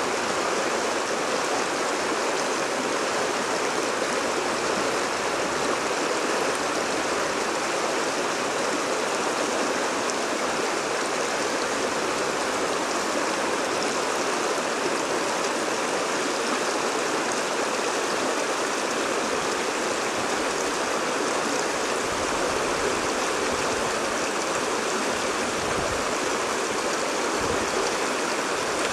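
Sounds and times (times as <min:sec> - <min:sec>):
stream rushing over rocks: 0:00.0 - 0:28.9.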